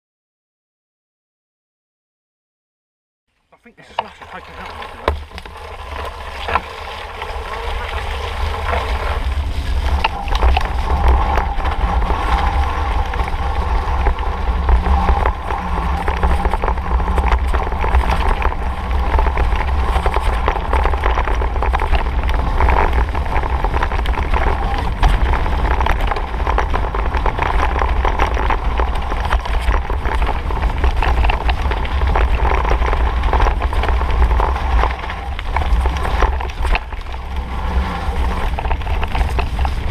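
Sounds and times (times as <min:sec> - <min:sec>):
bike tyres rumbling over dirt: 0:03.8 - 0:39.9
wind buffeting on microphone: 0:04.0 - 0:39.9.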